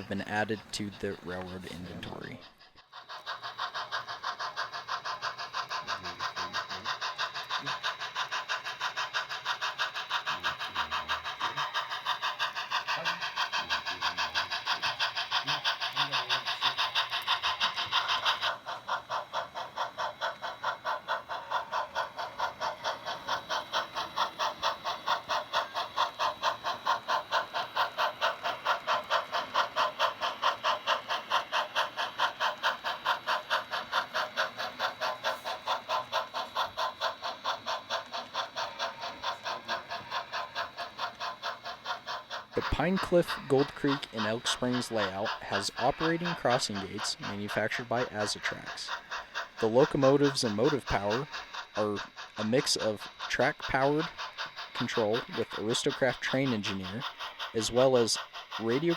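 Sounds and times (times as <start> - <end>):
model train running: 0.0 - 58.9.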